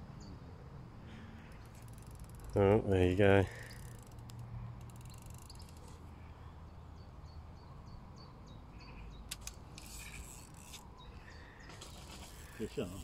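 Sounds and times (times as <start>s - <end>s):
faint lakeside background noise: 0.0s - 13.0s.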